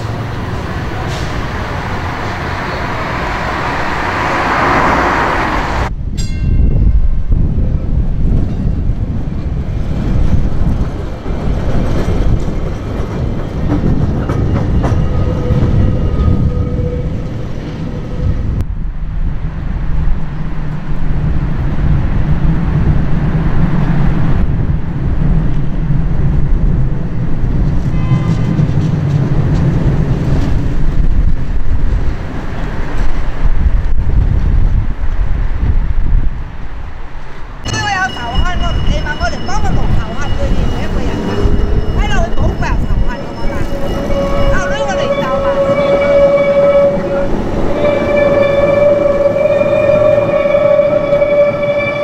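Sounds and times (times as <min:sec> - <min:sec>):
electric tram running on rails: 0:00.0 - 0:52.0.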